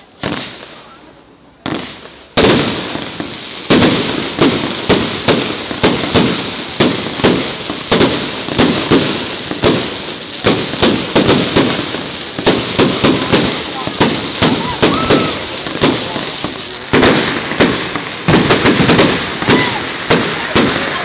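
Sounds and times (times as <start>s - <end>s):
fireworks crackling: 0.0s - 21.0s
firework shell bursts: 1.8s - 21.0s.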